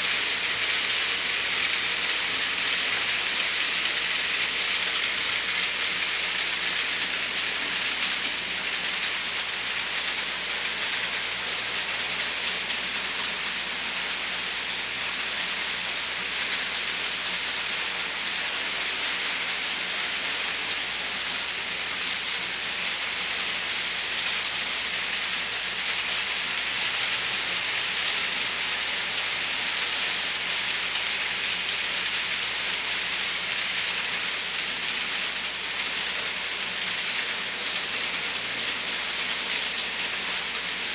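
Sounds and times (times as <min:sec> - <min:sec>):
model locomotive motors whirring: 0:00.0 - 0:40.9
small wheels rattling on rail joints: 0:00.1 - 0:40.9.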